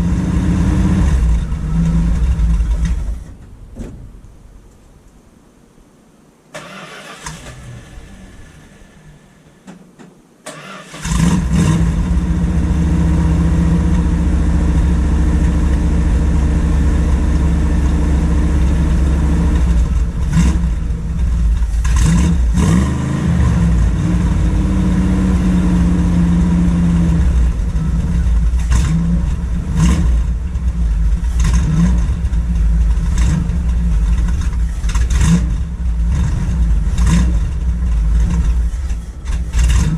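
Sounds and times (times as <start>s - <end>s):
car engine cranking and running: 0.0s - 3.7s, 6.6s - 9.2s, 10.5s - 39.9s.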